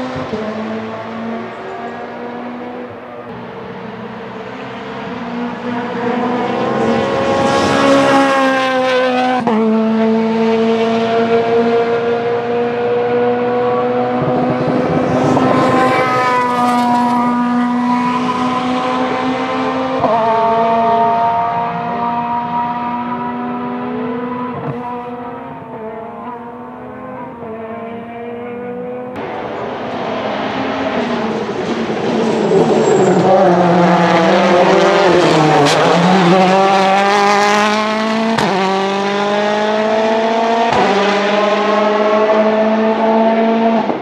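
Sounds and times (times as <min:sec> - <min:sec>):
rally car engines revving past: 0:00.0 - 0:44.0.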